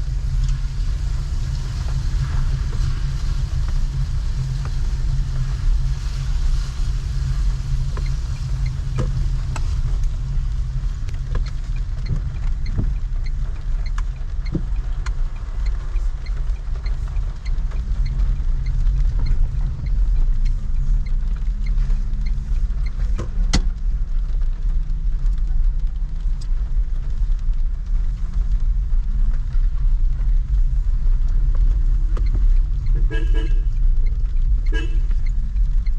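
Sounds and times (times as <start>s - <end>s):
traffic on wet street: 0.0s - 35.9s.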